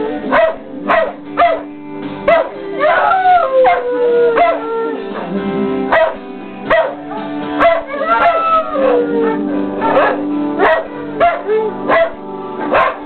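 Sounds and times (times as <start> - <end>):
dogs howling: 2.3 - 13.0.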